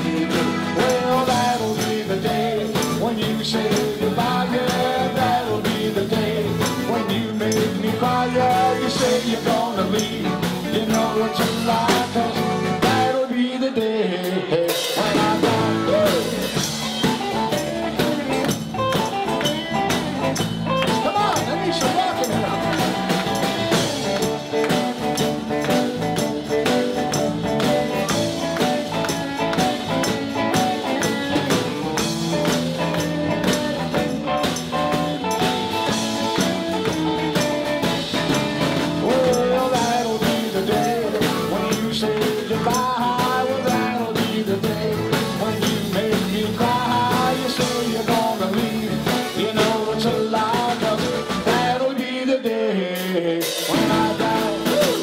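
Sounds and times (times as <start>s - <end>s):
man singing: 0.0s - 27.0s, 35.8s - 55.0s
electric guitars: 0.0s - 52.7s, 53.3s - 55.0s
drum kit: 0.0s - 55.0s.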